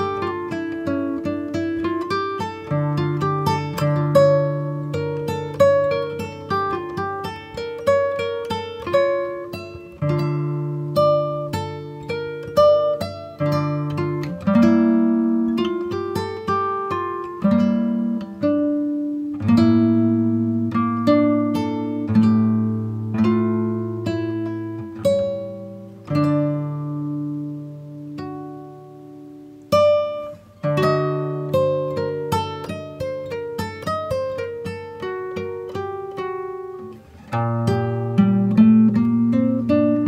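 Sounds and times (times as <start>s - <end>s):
acoustic guitar plucking: 0.0s - 40.0s.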